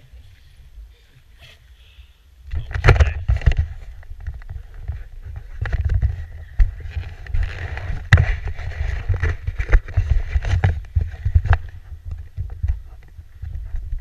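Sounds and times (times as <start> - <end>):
low rumble and handling noise: 2.4 - 14.0.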